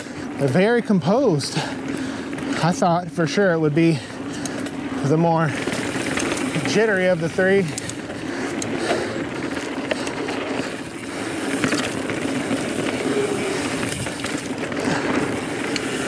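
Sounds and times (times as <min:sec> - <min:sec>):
bike clicks and rattles: 0:00.0 - 0:16.0.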